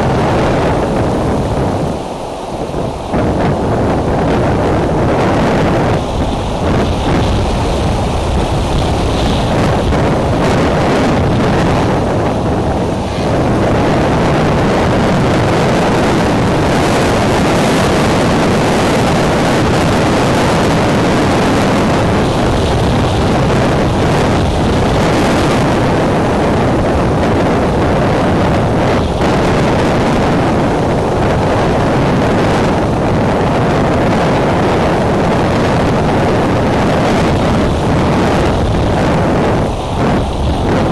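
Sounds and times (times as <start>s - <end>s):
wind blasting on microphone: 0.0s - 40.9s.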